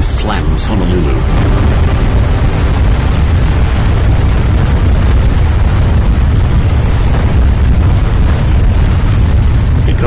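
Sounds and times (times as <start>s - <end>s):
deep rumble: 0.0s - 10.0s
rushing water noise: 0.0s - 10.0s.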